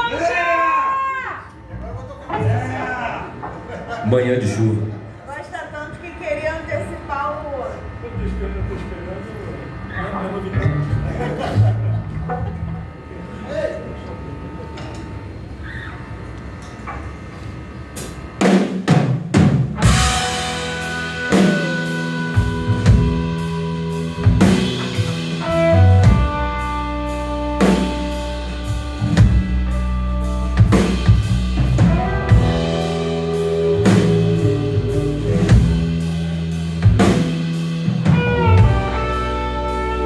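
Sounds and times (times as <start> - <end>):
live rock band playing: 0.0 - 15.8, 17.8 - 40.0.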